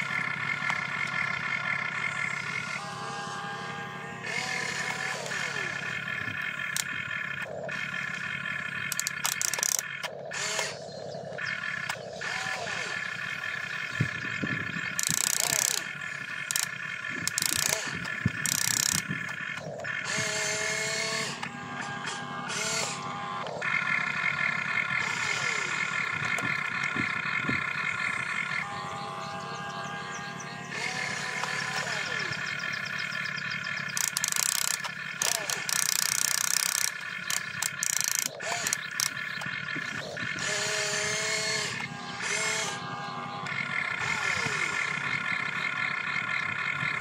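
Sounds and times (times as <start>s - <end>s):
electric gear motors whining: 0.0s - 47.0s.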